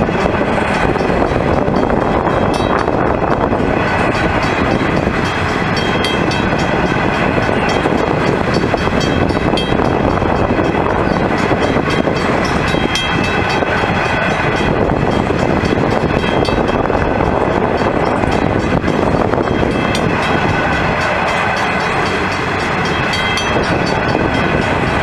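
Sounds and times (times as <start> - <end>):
steel wheels rumbling on rail: 0.0 - 25.0
wheels clicking over rail joints: 0.0 - 25.0.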